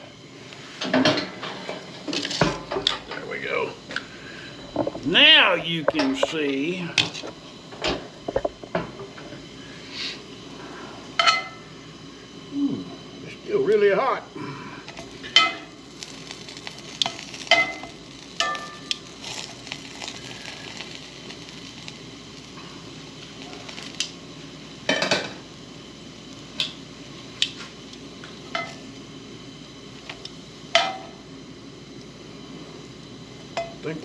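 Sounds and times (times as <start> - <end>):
bagels sizzling in a skillet: 0.0 - 34.0.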